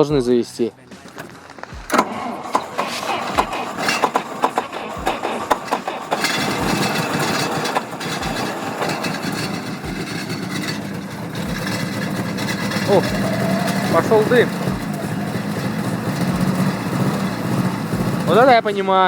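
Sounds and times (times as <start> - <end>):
car engine cranking and starting: 0.8 - 19.0.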